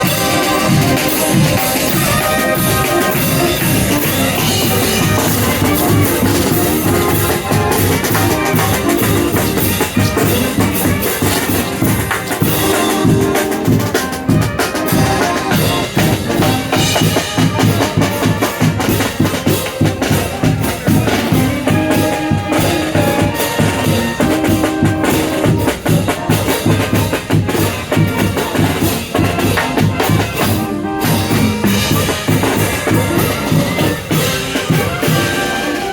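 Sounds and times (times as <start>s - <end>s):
drum kit beat: 0.0s - 35.9s
live band music: 0.0s - 35.9s.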